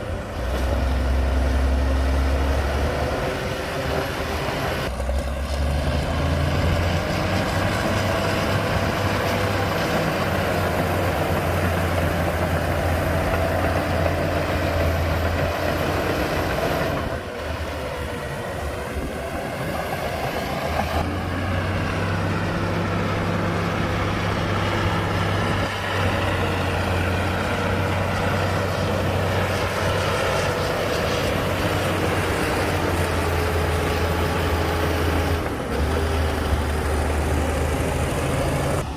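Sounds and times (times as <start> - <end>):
heavy diesel machinery engine drone: 0.0 - 38.9.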